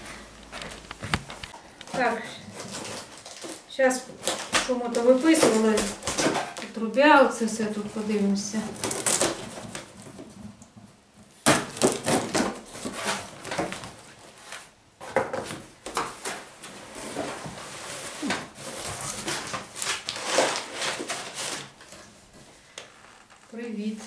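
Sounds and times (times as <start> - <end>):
packaging rustling and crackling: 0.3 - 10.6, 11.4 - 24.0.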